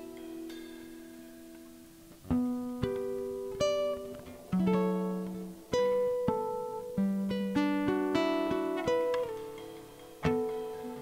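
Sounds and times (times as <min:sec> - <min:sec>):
nylon-string guitar fingerstyle: 0:00.0 - 0:11.0.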